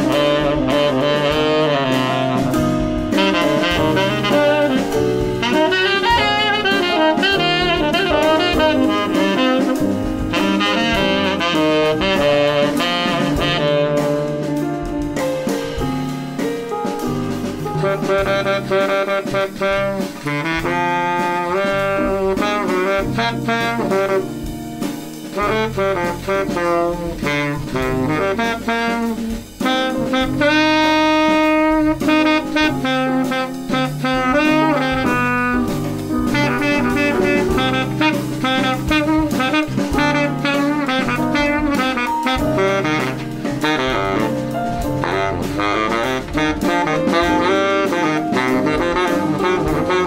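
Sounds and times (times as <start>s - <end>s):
drum kit: 0.0s - 50.0s
horn melody: 0.0s - 50.0s.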